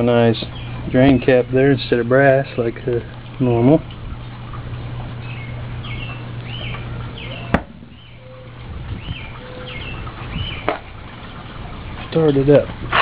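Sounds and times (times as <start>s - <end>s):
birds chirping: 0.0s - 12.8s
low steady hum: 0.0s - 13.0s.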